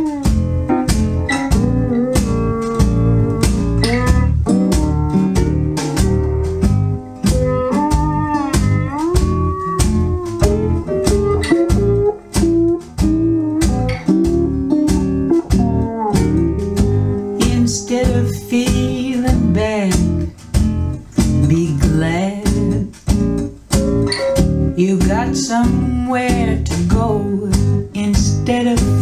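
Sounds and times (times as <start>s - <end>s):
guitar with sliding notes: 0.0s - 29.0s
rhythmic bass line: 0.0s - 29.0s.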